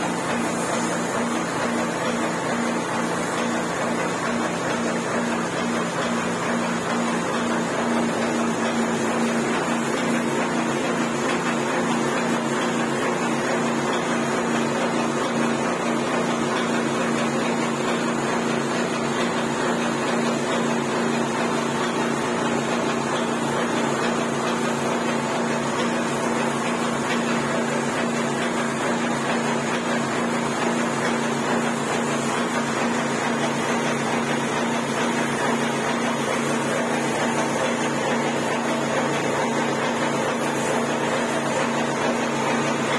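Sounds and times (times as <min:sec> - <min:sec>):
spray gun hissing: 0:00.0 - 0:42.9
spray machine humming: 0:00.0 - 0:42.9.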